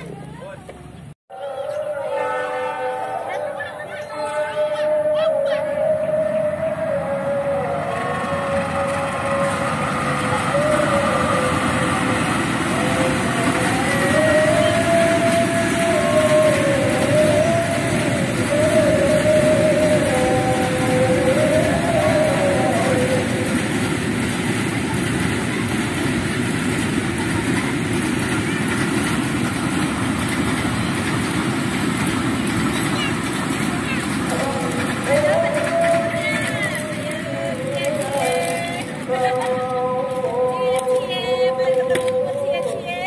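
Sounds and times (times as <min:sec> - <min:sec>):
freight wagons rumbling: 0:00.0 - 0:43.0
locomotive engine hum: 0:00.0 - 0:43.0
train wheels running on rails: 0:00.0 - 0:43.0.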